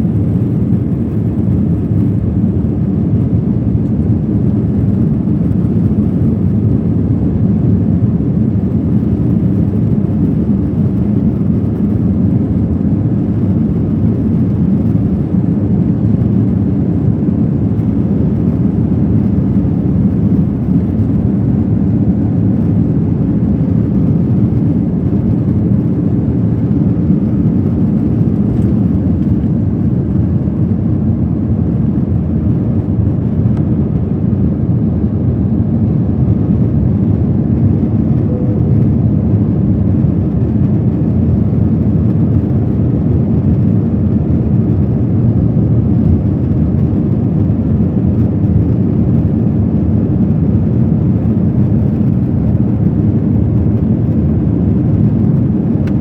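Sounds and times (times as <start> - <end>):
jet cabin engine rumble: 0.0 - 56.0.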